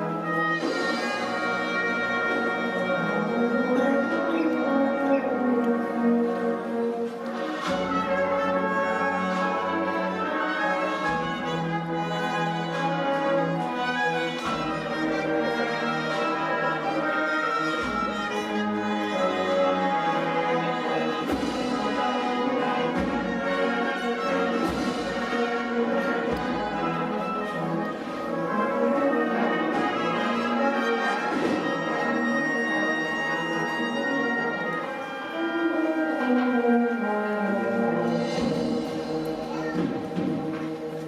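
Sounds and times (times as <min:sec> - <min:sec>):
brass band march: 0:00.0 - 0:41.0.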